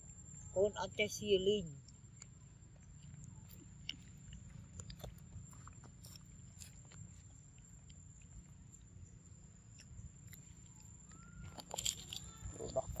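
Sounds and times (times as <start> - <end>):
low background hum: 0.0 - 13.0
monkey chewing wetly: 1.7 - 13.0.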